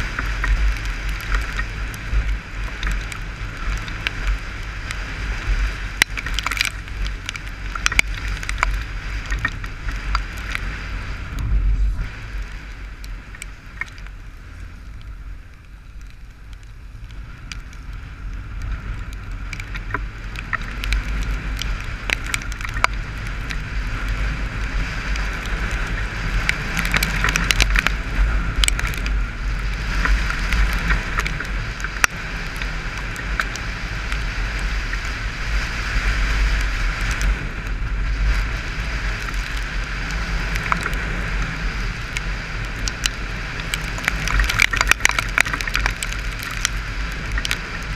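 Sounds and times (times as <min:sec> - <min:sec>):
raindrops ticking on camera: 0:00.0 - 0:47.9
road noise: 0:00.0 - 0:47.9
wind buffeting microphone: 0:00.0 - 0:47.9.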